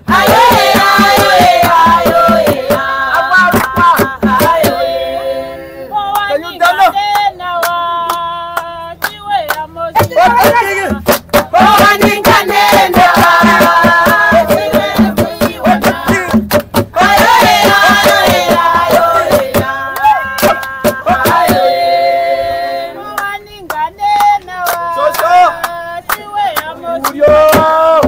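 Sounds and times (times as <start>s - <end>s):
voices singing: 0.0s - 28.0s
hand-claps: 0.1s - 4.8s, 6.1s - 21.6s, 23.0s - 28.0s.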